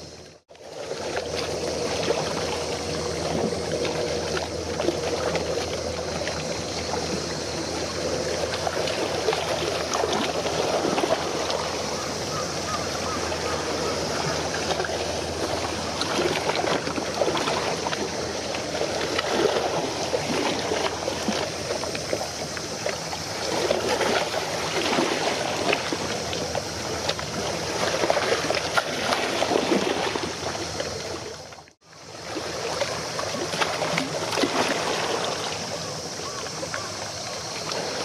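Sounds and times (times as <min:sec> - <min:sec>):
water splashing: 0:00.0 - 0:38.0.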